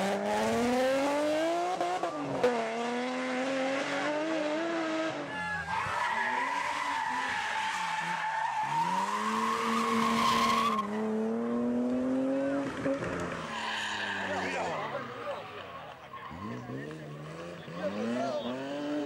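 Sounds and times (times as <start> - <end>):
rally car engines revving: 0.0 - 19.0.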